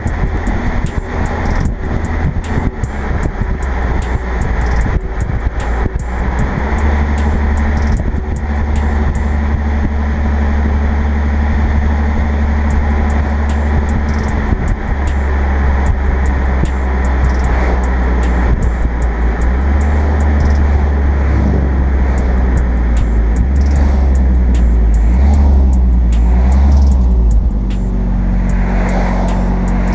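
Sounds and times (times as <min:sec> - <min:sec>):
low car exhaust drone: 0:00.0 - 0:29.9
wind and road noise: 0:00.0 - 0:29.9.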